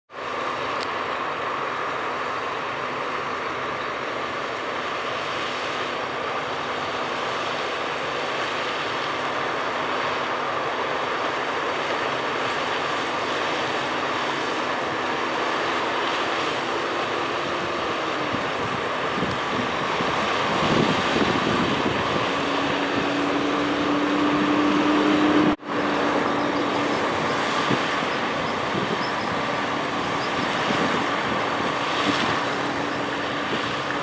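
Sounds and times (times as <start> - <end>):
combine harvester machinery droning: 0.1 - 34.0
high machinery whine: 0.2 - 34.0.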